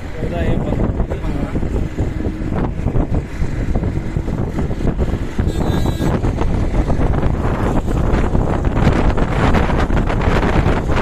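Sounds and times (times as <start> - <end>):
engine and road rumble: 0.0 - 11.0
wind buffeting microphone: 0.0 - 11.0.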